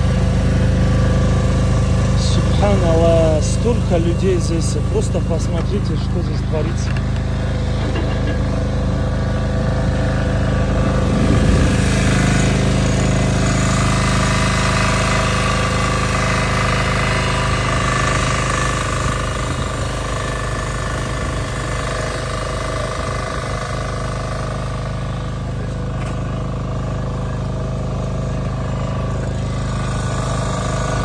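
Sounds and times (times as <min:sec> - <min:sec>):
heavy machinery diesel engines droning: 0:00.0 - 0:31.0.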